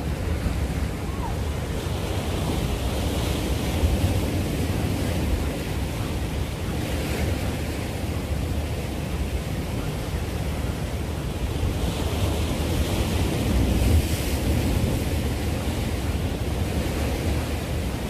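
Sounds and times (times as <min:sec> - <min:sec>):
sea waves breaking on rocks: 0:00.0 - 0:18.0.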